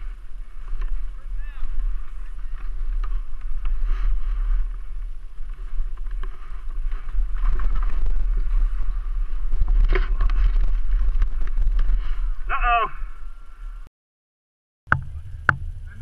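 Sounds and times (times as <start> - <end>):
wind rumble on microphone: 0.0 - 13.9.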